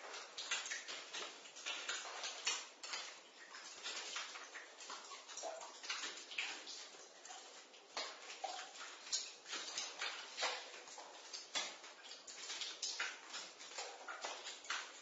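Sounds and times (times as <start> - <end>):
water dripping: 0.0 - 15.0.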